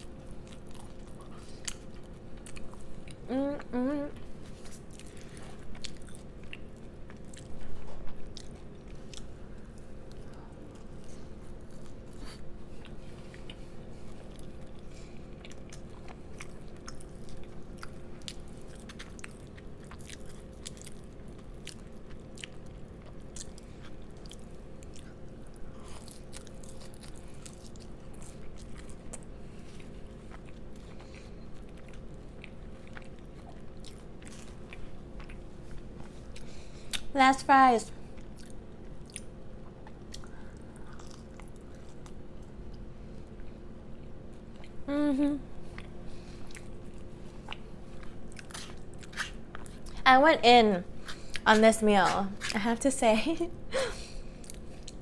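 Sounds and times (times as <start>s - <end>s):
chewing french fries: 0.0s - 50.1s, 50.9s - 55.0s.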